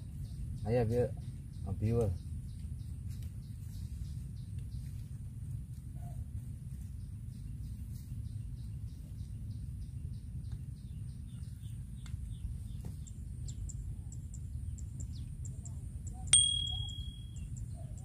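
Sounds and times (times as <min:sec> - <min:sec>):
bird chirping: 0:00.0 - 0:05.1, 0:06.9 - 0:18.0
low outdoor rumble: 0:00.0 - 0:18.0.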